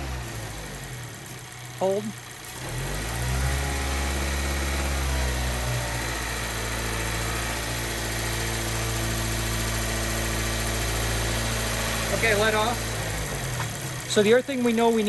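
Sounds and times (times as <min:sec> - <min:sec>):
car engine running steadily: 0:00.0 - 0:15.0.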